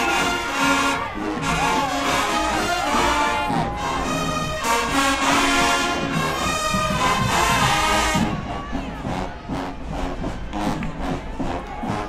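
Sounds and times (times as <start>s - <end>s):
loud brass horns: 0.0s - 12.0s
marching band playing: 0.0s - 12.0s.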